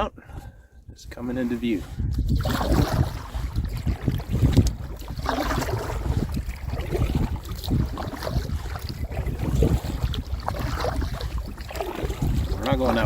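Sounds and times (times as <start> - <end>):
wind rumbling on microphone: 0.0 - 13.0
water splashing around canoe: 1.2 - 13.0.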